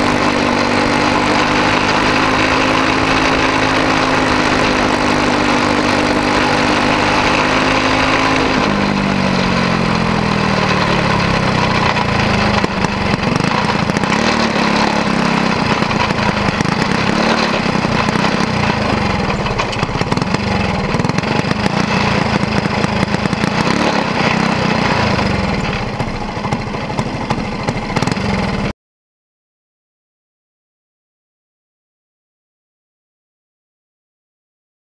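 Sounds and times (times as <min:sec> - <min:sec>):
kart engine running: 0:00.0 - 0:28.7.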